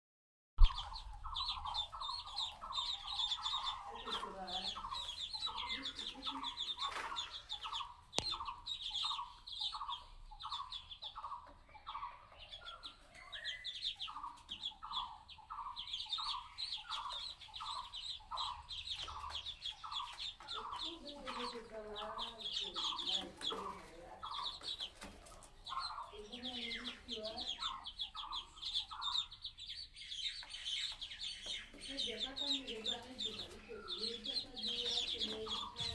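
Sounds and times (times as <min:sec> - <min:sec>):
ducklings peeping: 0:00.6 - 0:35.9.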